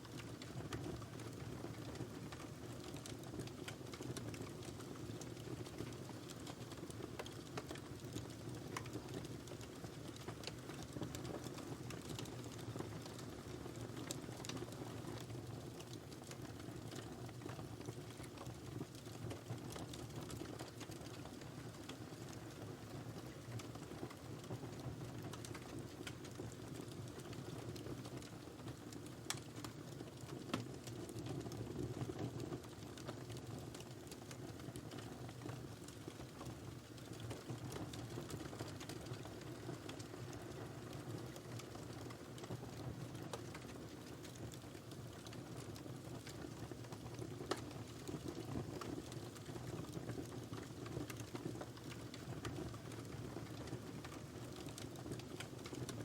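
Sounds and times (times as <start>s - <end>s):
fire crackles and pops: 0.0s - 56.0s.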